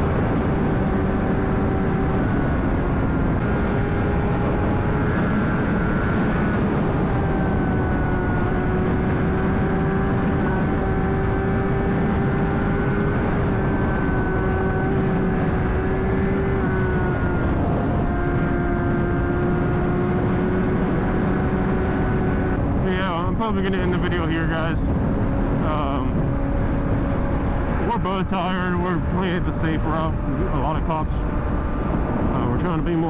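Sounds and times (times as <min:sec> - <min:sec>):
motorcycle engine cruising: 0:00.0 - 0:33.0
road rumble: 0:00.0 - 0:33.0
wind: 0:00.0 - 0:33.0.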